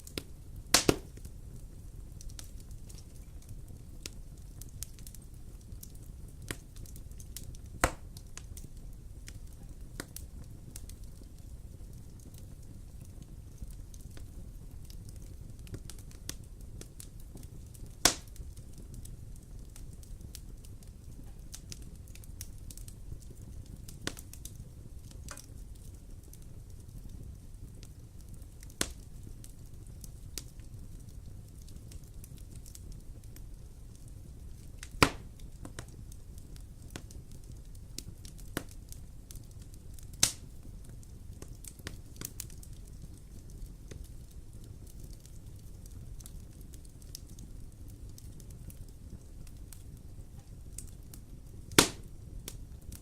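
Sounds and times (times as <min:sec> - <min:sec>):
fire crackles and pops: 0:00.0 - 0:53.0
fire low rumble: 0:00.0 - 0:53.0.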